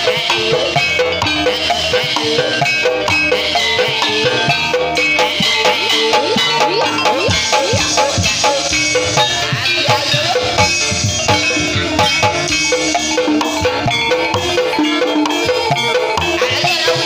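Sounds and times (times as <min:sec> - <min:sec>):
gamelan mallet percussion: 0:00.0 - 0:17.0
hand drum strokes: 0:02.0 - 0:16.9.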